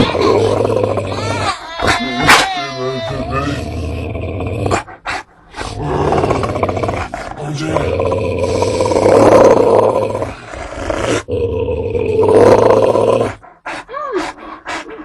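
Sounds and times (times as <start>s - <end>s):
dog growling: 0.0s - 15.0s.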